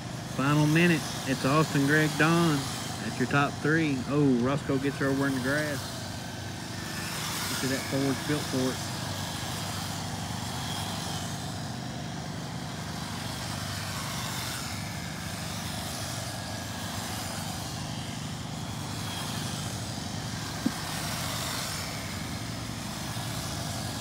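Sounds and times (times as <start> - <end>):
electric rc cars droning: 0.0 - 24.0.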